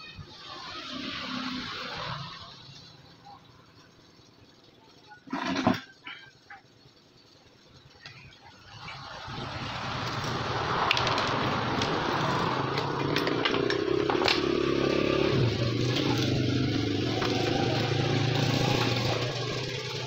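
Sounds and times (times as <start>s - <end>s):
small engine running: 0.5s - 20.0s.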